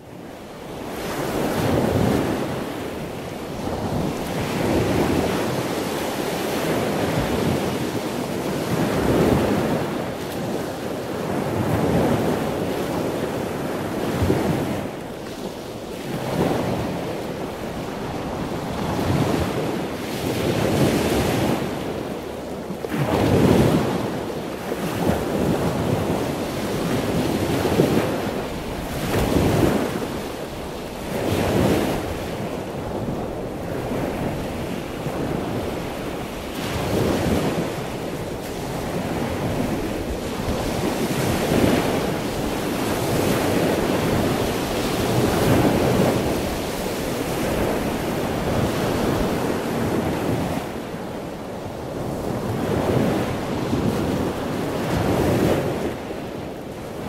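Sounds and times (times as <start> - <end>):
waves splashing: 0.0 - 57.0
wind buffeting microphone: 0.0 - 57.0.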